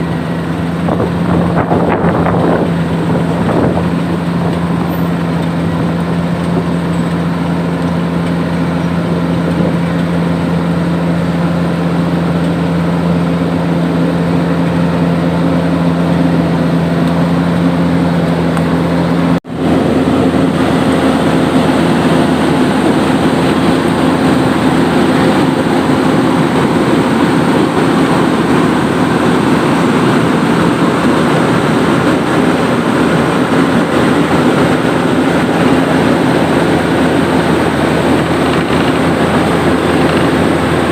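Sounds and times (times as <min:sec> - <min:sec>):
diesel paving machinery engine hum: 0:00.0 - 0:40.9.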